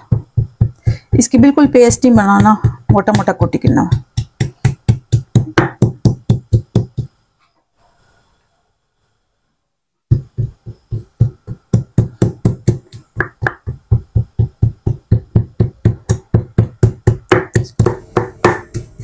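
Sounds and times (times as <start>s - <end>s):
pestle pounding in stone mortar: 0.0s - 7.2s, 10.1s - 19.0s.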